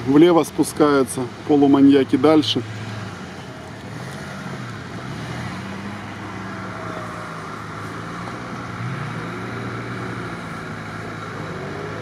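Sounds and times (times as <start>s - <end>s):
vehicle engine at low revs: 0.0s - 12.0s.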